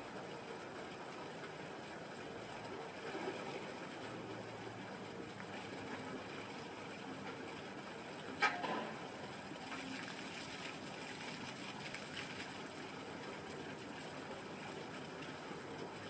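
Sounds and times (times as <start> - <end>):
fountain water splashing into tub: 0.0 - 16.0.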